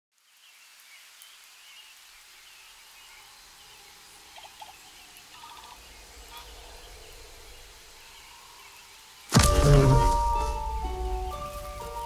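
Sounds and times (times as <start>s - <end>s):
distant birds chirping: 0.2s - 12.0s.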